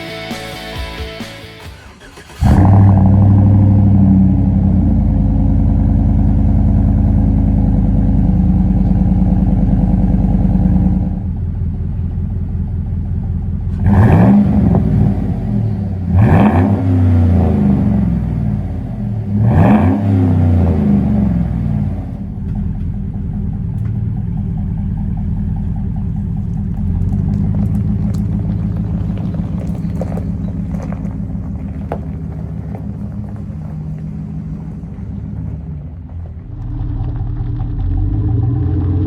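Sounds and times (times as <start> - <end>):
car engine idling and revving: 0.0 - 39.0.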